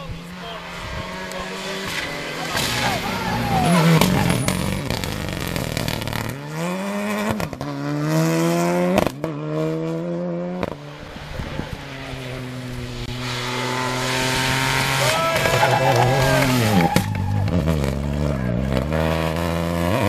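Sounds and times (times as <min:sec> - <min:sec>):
rally car accelerating with upshifts: 0:00.0 - 0:20.0
rally car passing at high revs: 0:00.0 - 0:20.0.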